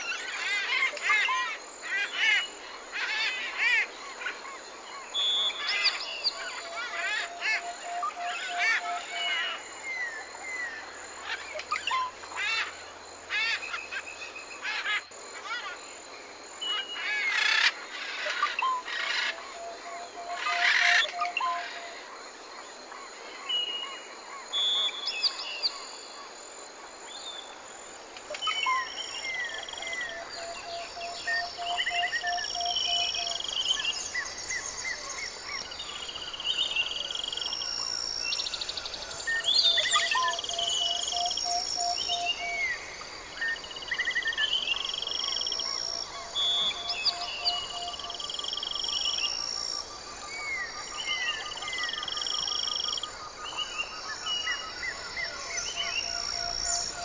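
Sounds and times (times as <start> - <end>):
forest birds calling: 0.0 - 57.0
insects buzzing: 0.0 - 57.0.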